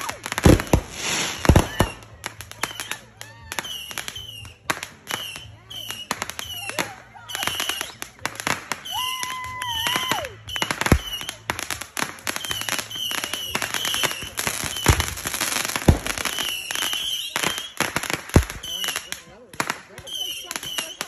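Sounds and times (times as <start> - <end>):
firework whistle: 0.0 - 8.0, 8.7 - 11.5, 12.3 - 15.2, 15.9 - 19.3, 20.0 - 21.0
fireworks pops and booms: 0.0 - 21.0.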